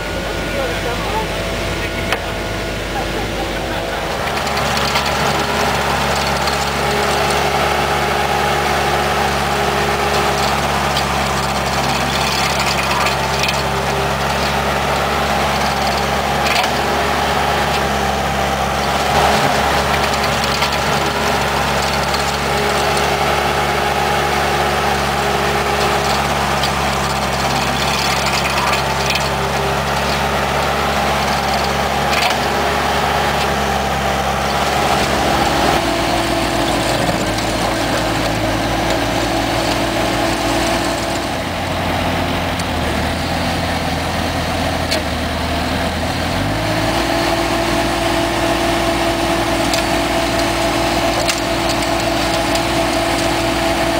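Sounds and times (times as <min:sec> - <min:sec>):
diesel engine running under load: 0:00.0 - 0:53.9
stump grinder chewing wood: 0:00.0 - 0:53.9.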